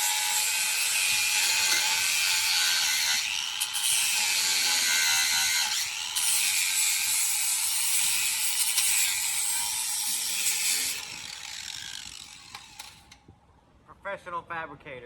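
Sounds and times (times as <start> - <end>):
power tool whining on steel: 0.0 - 13.2.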